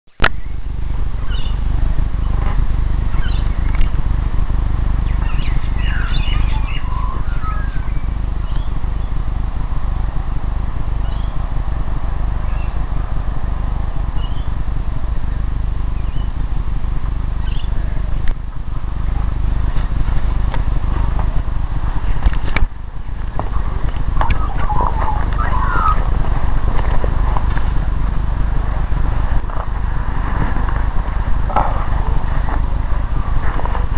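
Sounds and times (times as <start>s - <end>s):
wind rumbling on microphone: 0.2s - 33.9s
birds chirping: 0.3s - 29.8s.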